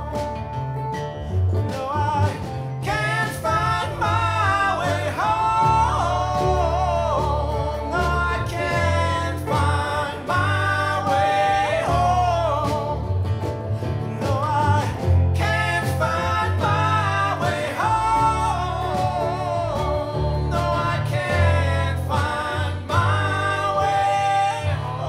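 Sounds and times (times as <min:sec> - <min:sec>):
man singing: 0:00.0 - 0:00.6, 0:01.2 - 0:25.0
strummed acoustic guitars: 0:00.0 - 0:25.0
upright bass: 0:00.0 - 0:25.0.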